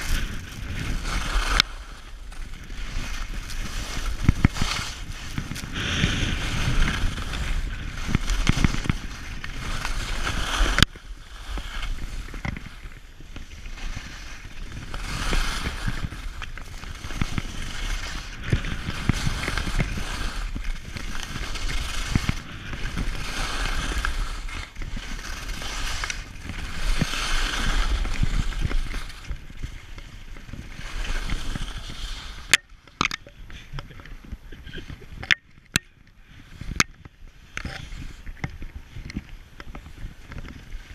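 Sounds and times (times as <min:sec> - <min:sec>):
skis scraping over packed snow: 0:00.0 - 0:40.9
wind rumbling on microphone: 0:00.0 - 0:40.9.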